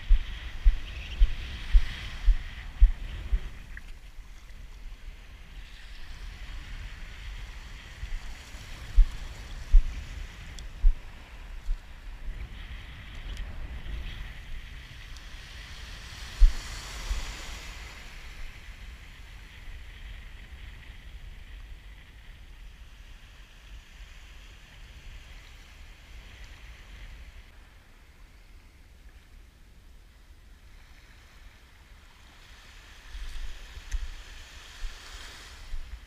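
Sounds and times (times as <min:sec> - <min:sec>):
wind rumbling on microphone: 0:00.0 - 0:36.0.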